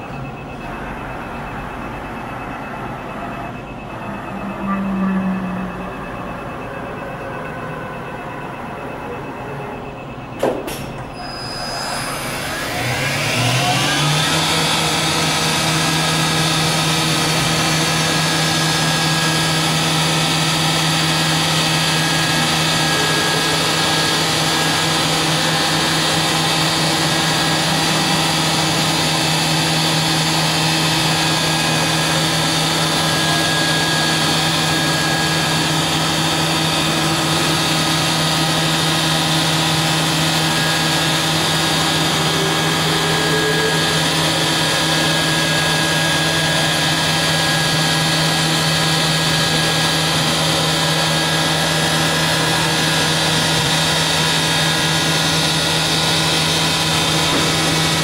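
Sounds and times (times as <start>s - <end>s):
machine spindle whine: 0.0s - 58.0s.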